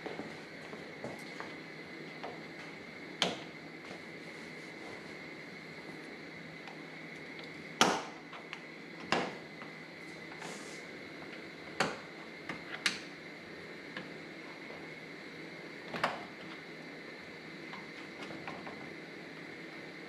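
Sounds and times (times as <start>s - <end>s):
faint high hum: 0.0s - 20.0s.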